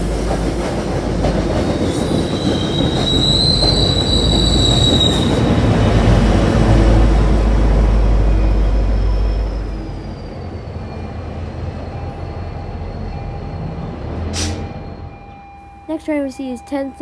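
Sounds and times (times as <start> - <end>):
train passing rumble: 0.0 - 17.0.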